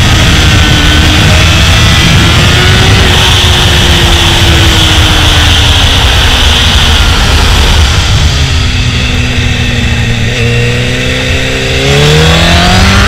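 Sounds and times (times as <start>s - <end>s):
motorcycle engine running: 0.0s - 13.0s
wind rush on microphone: 0.0s - 13.0s.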